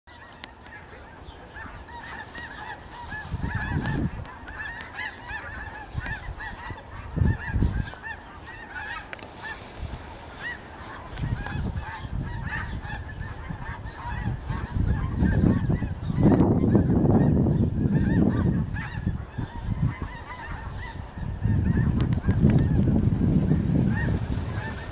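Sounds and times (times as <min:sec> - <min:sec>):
geese honking: 0:00.1 - 0:24.9.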